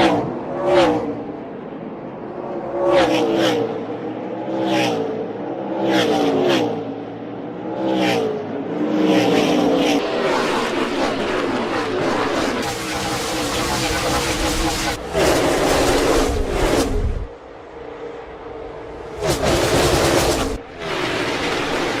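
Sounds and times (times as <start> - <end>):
race cars passing at full speed: 0.0 - 22.0.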